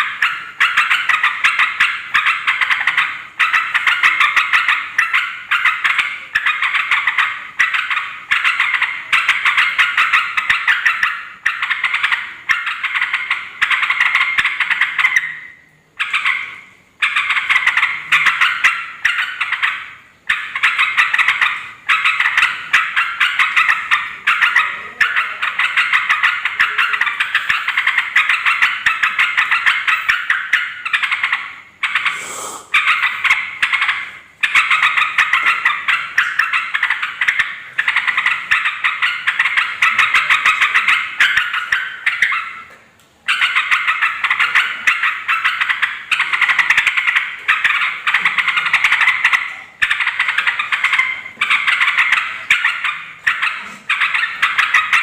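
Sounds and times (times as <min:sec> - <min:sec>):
bird chattering calls: 0:00.0 - 0:42.7, 0:43.3 - 0:55.0.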